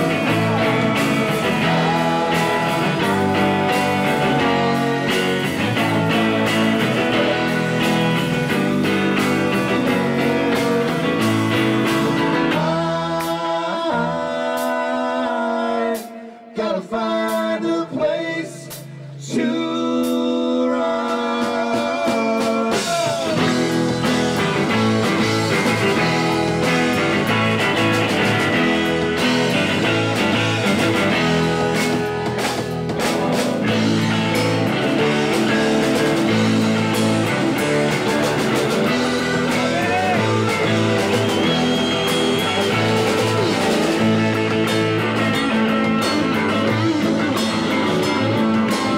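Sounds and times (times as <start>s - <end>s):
live rock band: 0.0s - 48.9s.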